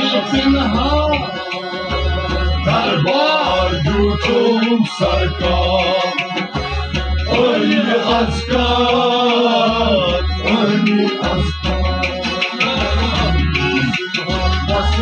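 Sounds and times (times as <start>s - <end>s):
man singing: 0.0s - 1.4s, 2.6s - 6.5s, 7.2s - 15.0s
steady drum rhythm: 0.0s - 15.0s.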